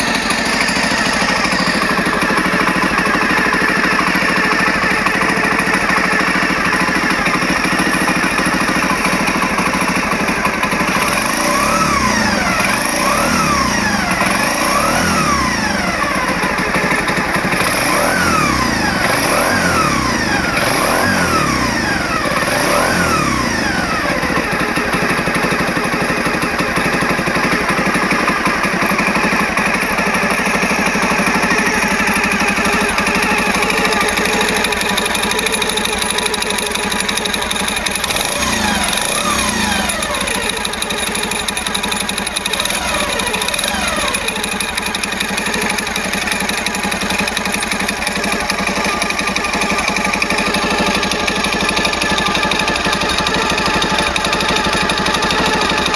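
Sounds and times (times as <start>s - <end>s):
engine throttle blips: 0.0s - 55.9s
motorcycle engine running: 0.0s - 55.9s.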